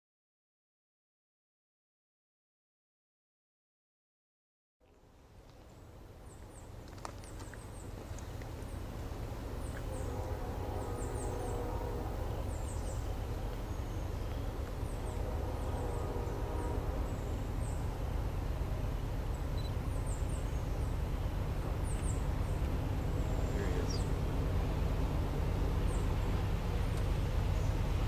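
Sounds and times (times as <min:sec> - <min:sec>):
freight train rumble: 0:05.0 - 0:28.0.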